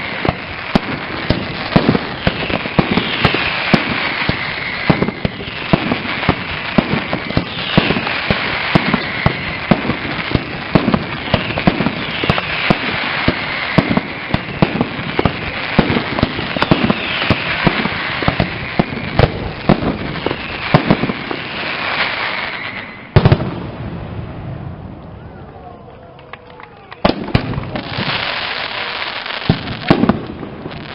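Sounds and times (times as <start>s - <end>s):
falling fireworks whistles: 0.0s - 23.6s, 26.9s - 30.9s
fireworks bangs: 0.0s - 25.2s, 26.9s - 30.9s
fireworks crackling: 0.0s - 25.2s, 26.8s - 30.9s.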